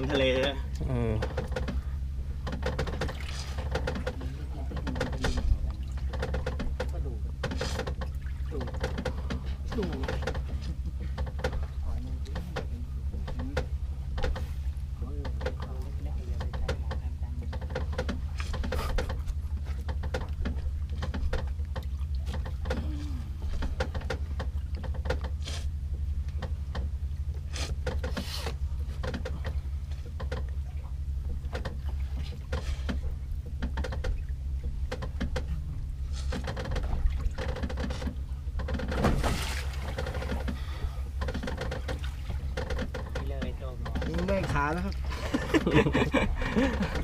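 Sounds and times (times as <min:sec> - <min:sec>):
boat engine humming: 0:00.0 - 0:47.0
knocks and clatter: 0:01.2 - 0:11.8, 0:12.4 - 0:14.6, 0:15.2 - 0:25.4, 0:28.8 - 0:30.6, 0:31.2 - 0:47.0.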